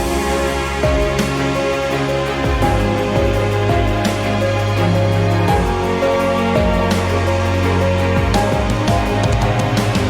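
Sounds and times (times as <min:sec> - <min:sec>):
drum hits: 0:00.0 - 0:01.8, 0:02.4 - 0:07.3, 0:08.0 - 0:10.0
instrumental music: 0:00.0 - 0:10.0
steady bass line: 0:00.0 - 0:10.0.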